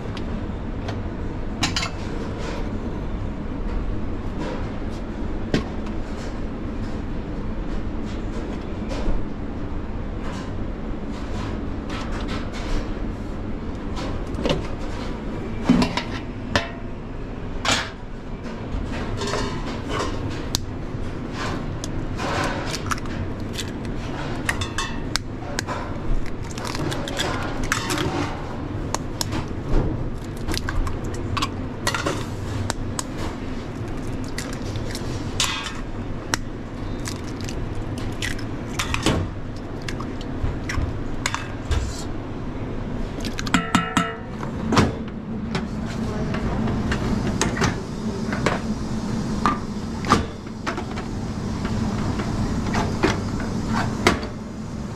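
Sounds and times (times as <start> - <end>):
kitchen hum: 0.0 - 54.9.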